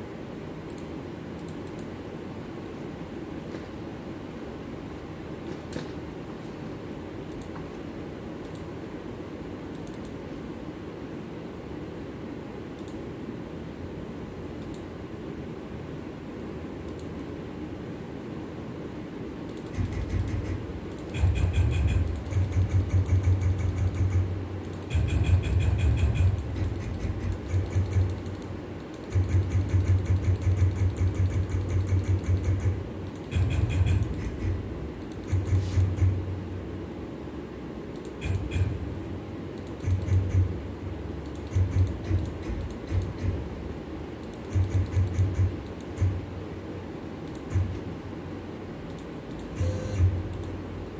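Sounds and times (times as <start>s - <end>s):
steady background hum: 0.0s - 50.9s.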